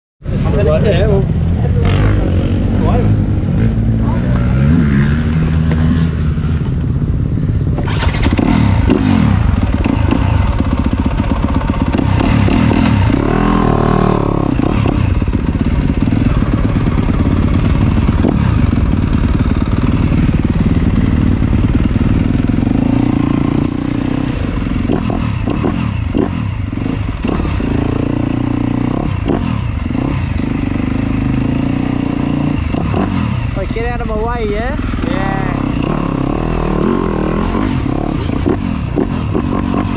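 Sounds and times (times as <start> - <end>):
motocross bike engine revving: 0.3 - 6.7, 7.3 - 39.9.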